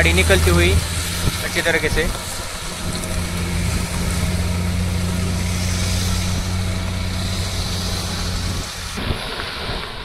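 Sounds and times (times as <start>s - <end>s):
truck diesel engine droning: 0.0s - 9.3s
car passing close by: 0.0s - 10.0s.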